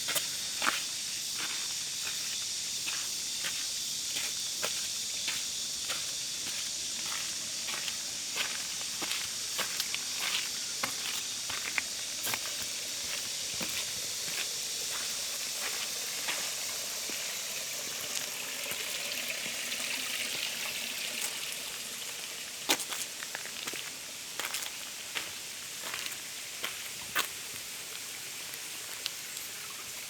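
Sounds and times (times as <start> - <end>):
flowing water hissing: 0.0 - 30.0.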